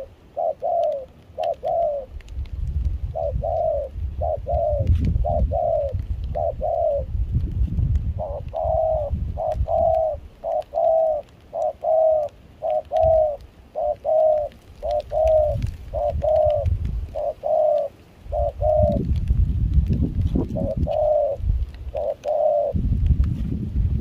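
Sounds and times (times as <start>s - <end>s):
dove cooing: 0.0s - 2.3s, 2.9s - 7.2s, 8.0s - 19.2s, 20.2s - 23.0s.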